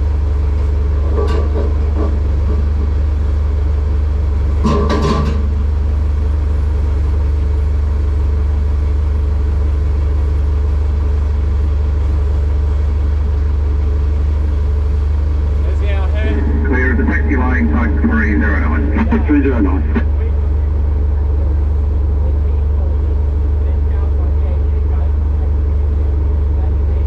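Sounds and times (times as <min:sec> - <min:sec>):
tug engine low drone: 0:00.0 - 0:27.0.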